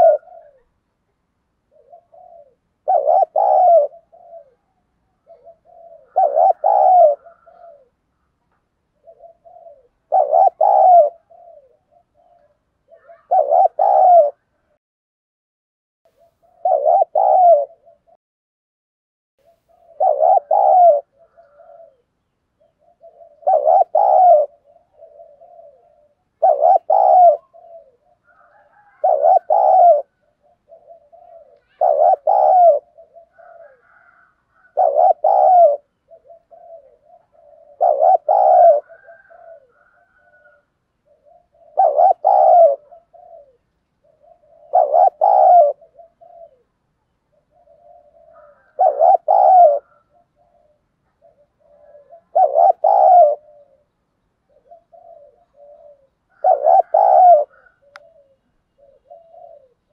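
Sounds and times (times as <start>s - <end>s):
dove cooing: 0.0s - 0.9s, 1.6s - 14.8s, 16.1s - 18.2s, 19.4s - 59.9s.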